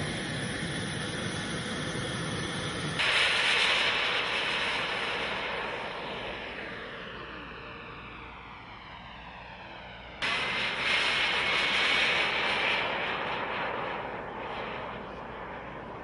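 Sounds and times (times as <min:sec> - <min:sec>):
model jet engine whine and hiss: 0:00.0 - 0:16.0
steady background noise: 0:00.0 - 0:16.0.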